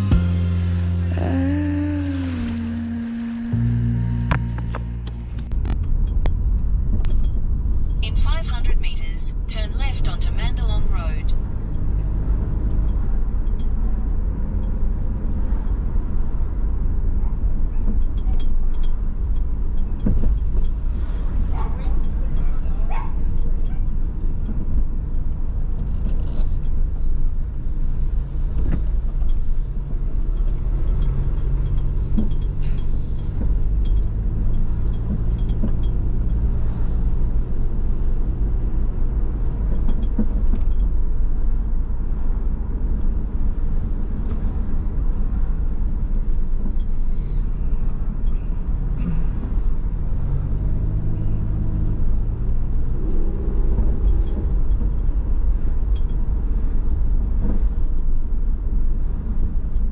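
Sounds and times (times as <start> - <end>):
faint engine hum: 0.0 - 59.9
road and engine rumble: 0.0 - 59.9.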